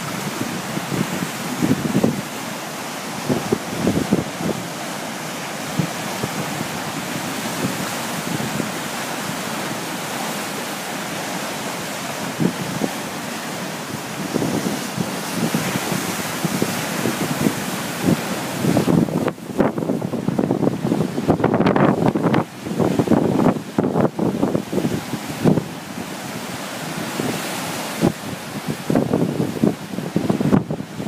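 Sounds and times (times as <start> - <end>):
strong wind buffeting microphone: 0.0 - 10.9, 11.6 - 31.0.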